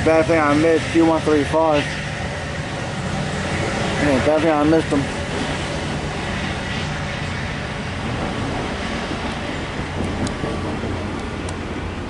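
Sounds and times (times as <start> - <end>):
diesel locomotive engine drone: 0.0 - 12.0
rolling rail noise: 0.0 - 12.0.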